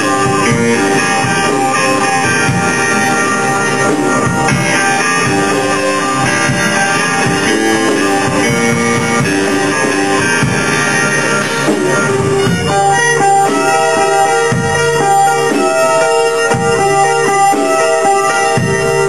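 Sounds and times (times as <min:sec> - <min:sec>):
rock band music: 0:00.0 - 0:19.0.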